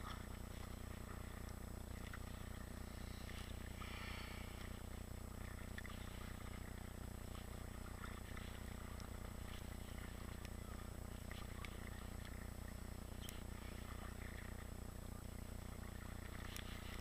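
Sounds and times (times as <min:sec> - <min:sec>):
kayak paddles in water: 0:00.0 - 0:17.0
steady low hum: 0:00.0 - 0:17.0.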